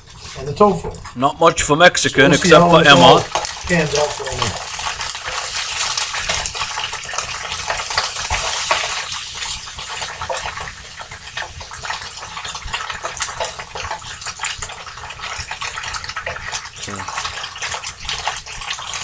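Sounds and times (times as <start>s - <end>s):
wooden spoon stirring: 0.0s - 19.0s
tofu sizzling in a frying pan: 2.0s - 19.0s.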